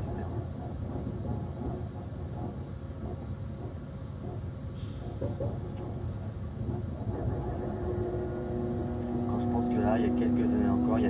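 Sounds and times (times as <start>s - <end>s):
train cab rumble at high speed: 0.0s - 11.0s.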